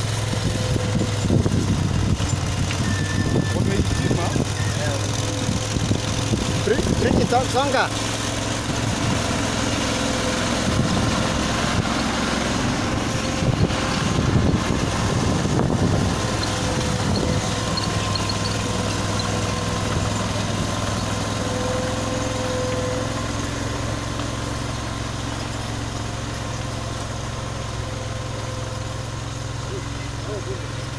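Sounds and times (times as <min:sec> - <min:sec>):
machine engine running: 0:00.0 - 0:30.9.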